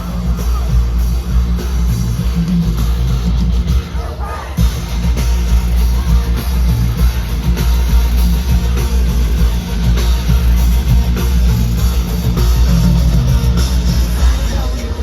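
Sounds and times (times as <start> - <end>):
live band with heavy bass: 0.0 - 15.0.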